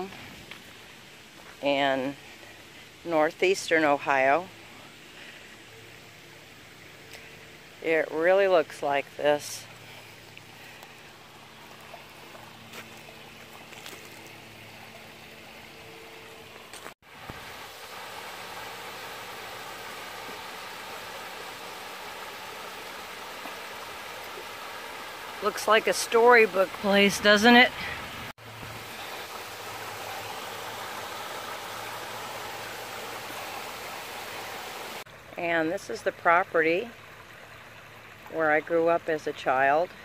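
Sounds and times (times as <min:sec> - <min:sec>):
trickling water: 0:00.0 - 0:40.0.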